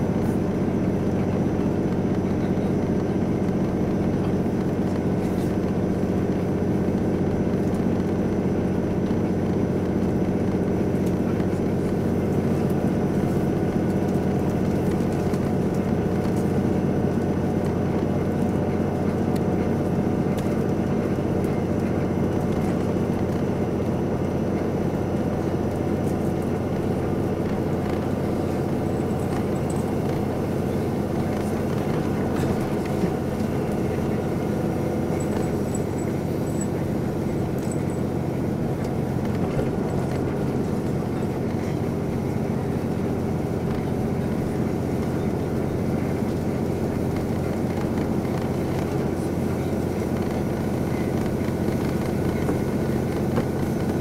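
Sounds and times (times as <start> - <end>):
train diesel engine and wheels droning: 0.0 - 54.0.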